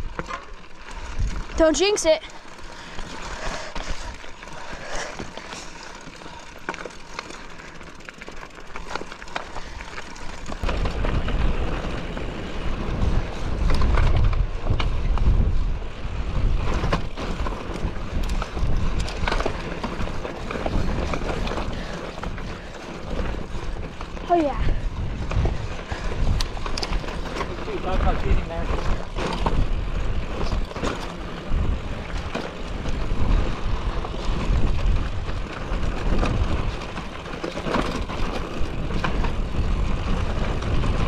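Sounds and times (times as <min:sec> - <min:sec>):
bike clicking and rattling: 0:00.0 - 0:41.0
bike tyres on rocky trail: 0:00.0 - 0:41.0.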